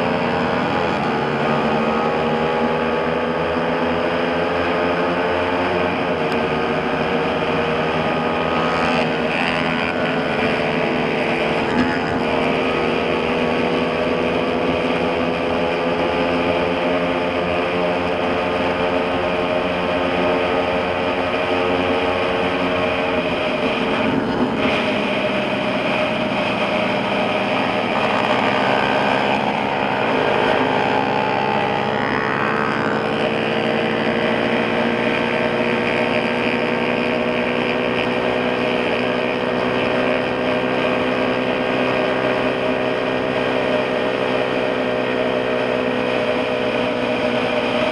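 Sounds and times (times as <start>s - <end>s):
motorcycle engine running: 0.0s - 47.9s
wind and road noise: 0.0s - 47.9s.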